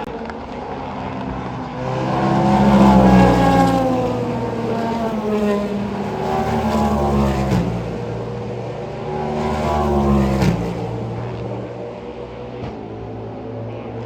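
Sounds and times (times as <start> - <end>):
race car engine accelerating: 0.0 - 13.5.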